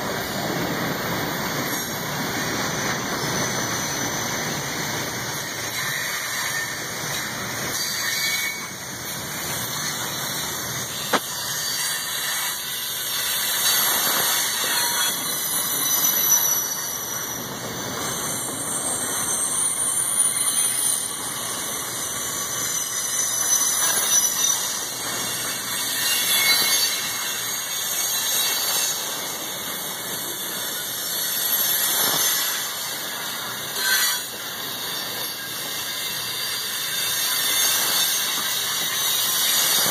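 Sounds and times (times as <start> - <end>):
freight train cars rolling: 0.0 - 39.9
wheels squealing on rail: 0.0 - 39.9.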